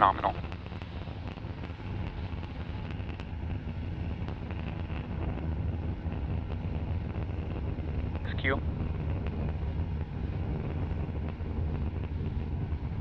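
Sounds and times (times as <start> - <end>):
rocket engines deep rumble: 0.0 - 13.0.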